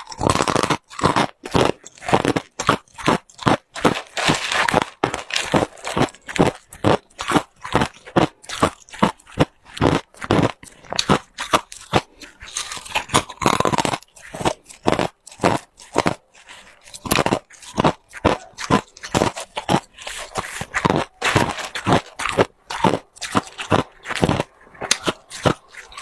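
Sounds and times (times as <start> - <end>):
crunching ice cubes: 0.0 - 26.0.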